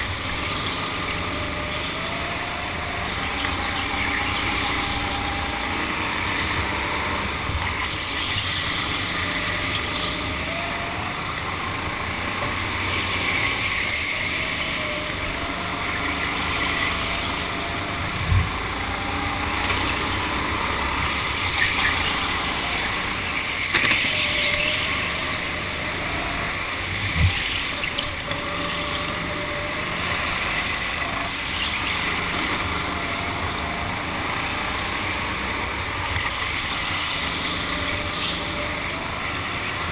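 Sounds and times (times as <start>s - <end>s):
faint motor whine: 0.0s - 39.9s
go-kart motor and tyre noise: 0.0s - 39.9s.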